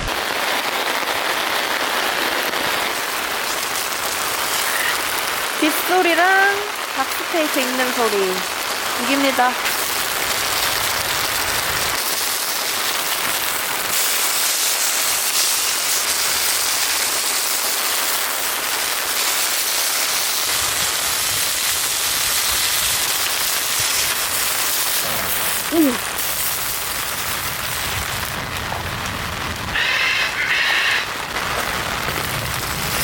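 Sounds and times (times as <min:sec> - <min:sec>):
heavy rain: 0:00.0 - 0:33.0
meat sizzling over fire: 0:00.0 - 0:33.0.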